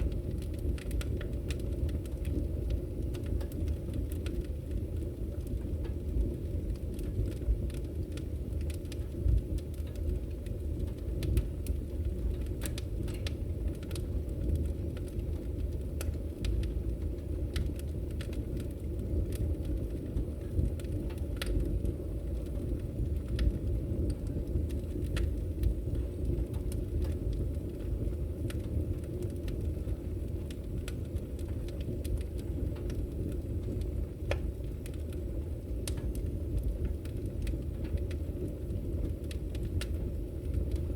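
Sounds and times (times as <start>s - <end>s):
fire crackles and pops: 0.0s - 40.9s
fire rumbling: 0.0s - 40.9s.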